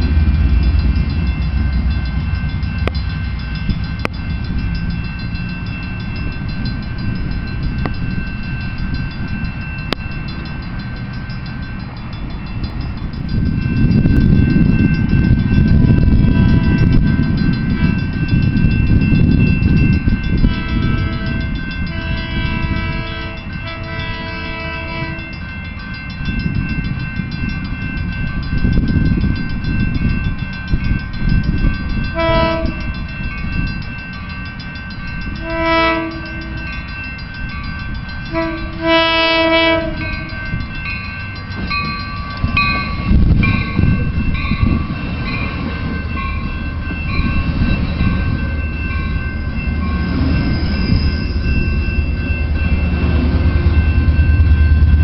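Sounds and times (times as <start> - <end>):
diesel train rumbling past: 0.0 - 55.0
train chime horn: 0.0 - 55.0.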